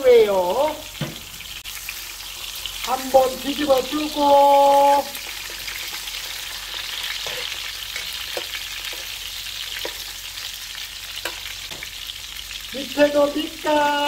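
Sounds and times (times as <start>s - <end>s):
squid sizzling in oil: 0.0s - 14.0s.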